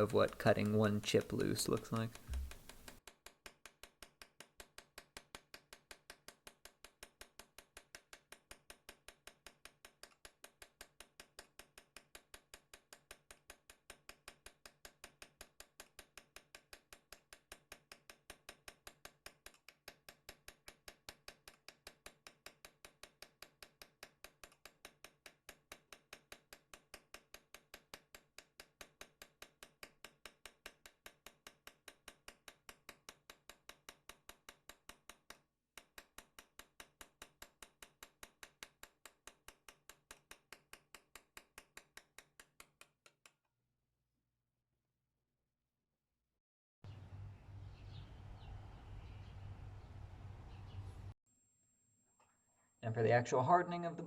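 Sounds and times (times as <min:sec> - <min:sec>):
hammer tapping chisel on steel: 0:00.0 - 0:43.4.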